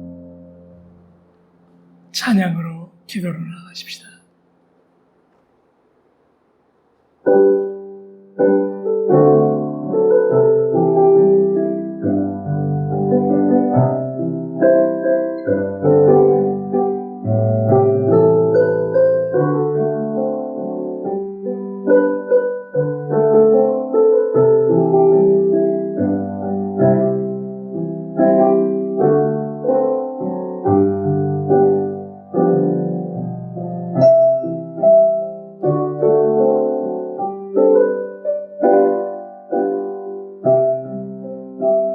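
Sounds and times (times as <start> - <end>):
piano playing slow hymn chords: 0.0 - 2.1, 7.2 - 41.9.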